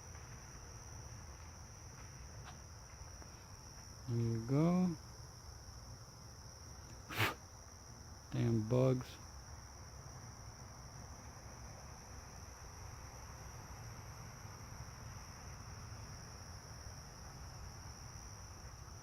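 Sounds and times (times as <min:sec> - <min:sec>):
crickets trilling: 0:00.0 - 0:19.0
faint background hiss: 0:00.0 - 0:19.0.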